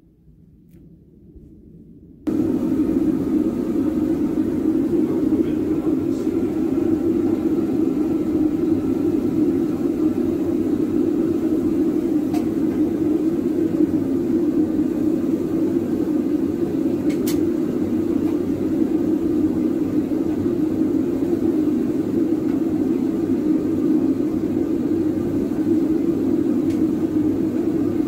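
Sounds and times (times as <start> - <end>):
gas burner rumbling: 2.3 - 28.0.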